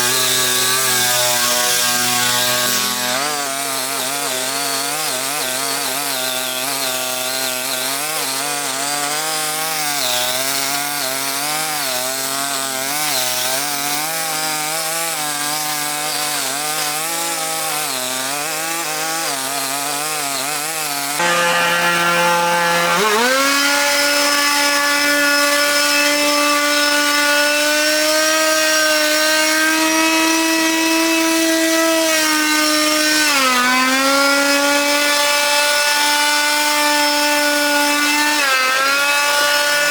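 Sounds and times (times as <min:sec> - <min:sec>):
small petrol engine of power tool: 0:00.0 - 0:39.9.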